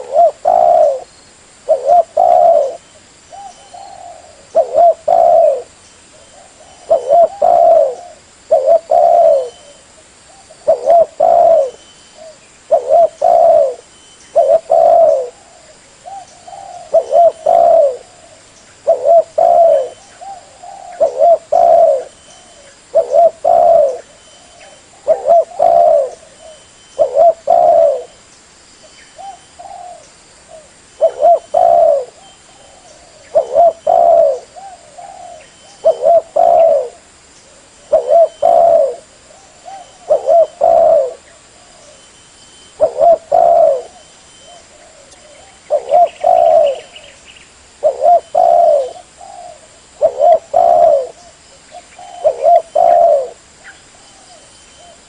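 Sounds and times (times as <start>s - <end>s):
dove cooing: 0.0s - 28.2s, 29.2s - 55.0s.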